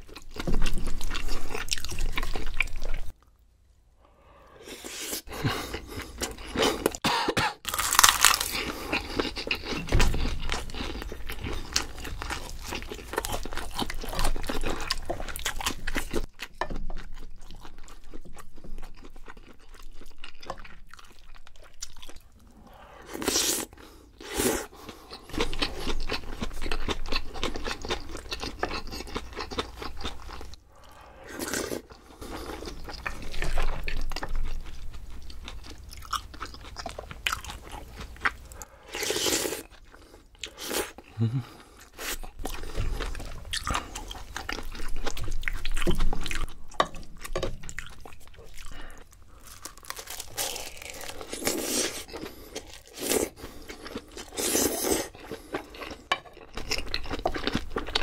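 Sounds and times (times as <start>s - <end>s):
person chewing crunchy food: 0.0s - 3.4s, 4.6s - 7.0s, 7.6s - 58.0s.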